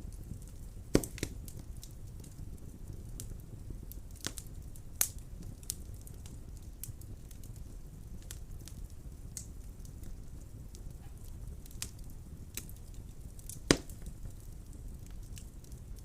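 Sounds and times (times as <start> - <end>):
fire burning in fireplace: 0.0 - 16.0
fire crackling and popping: 0.0 - 16.0.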